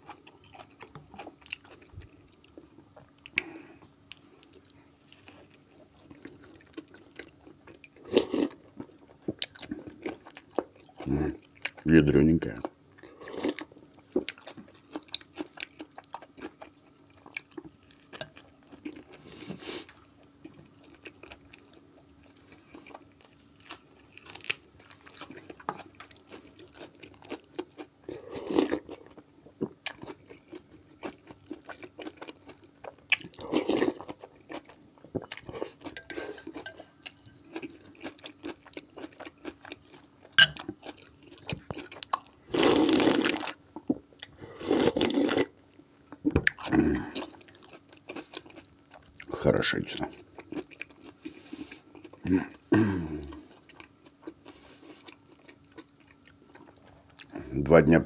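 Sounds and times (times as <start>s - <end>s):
chewing and crunching: 0.0s - 45.5s, 46.1s - 57.6s
faint steady hum: 0.0s - 58.0s.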